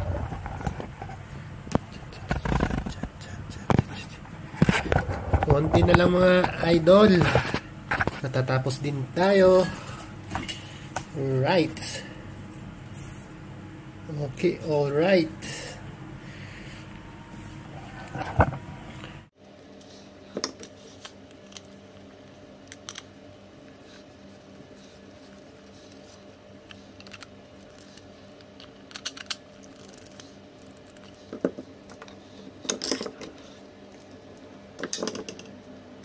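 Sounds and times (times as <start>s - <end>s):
faint hum: 0.0s - 36.0s.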